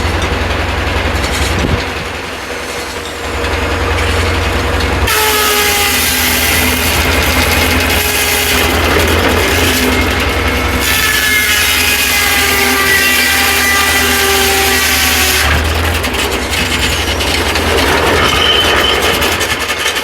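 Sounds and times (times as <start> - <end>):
low engine drone: 0.0 - 20.0
saw blade cutting log: 4.0 - 20.0.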